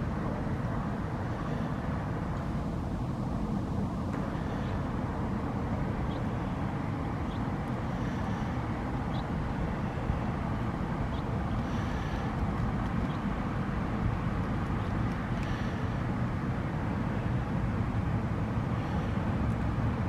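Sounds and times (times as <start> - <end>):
faint steady hum: 0.0 - 20.0
low outdoor rumble: 0.0 - 20.0.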